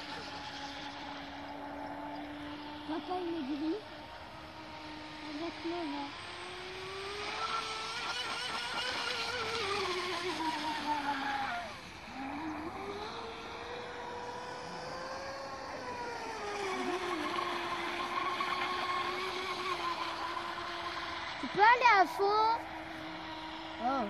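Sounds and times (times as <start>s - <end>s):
electric boat motor whining: 0.0s - 24.0s.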